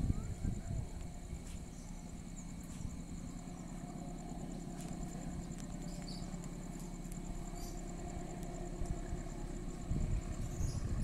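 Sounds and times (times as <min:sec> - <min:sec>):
distant traffic rumble: 0:00.0 - 0:11.0
insect chirping: 0:00.0 - 0:11.0.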